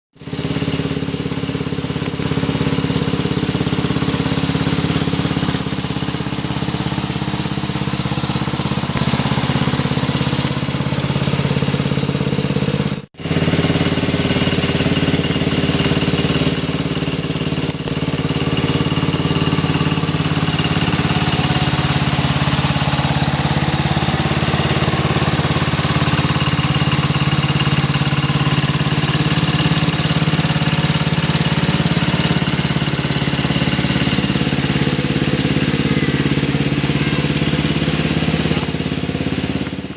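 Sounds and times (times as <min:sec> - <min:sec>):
small tractor engine running: 0:00.1 - 0:39.9.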